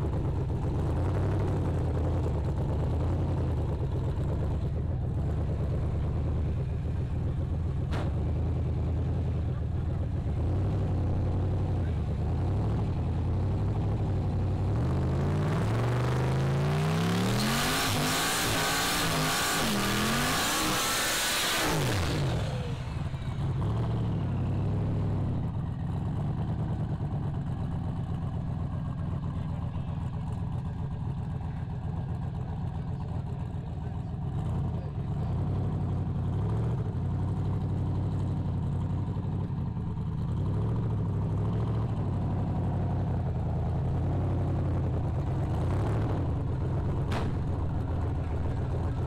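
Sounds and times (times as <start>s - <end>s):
truck engine idling: 0.0s - 16.6s, 22.0s - 49.0s.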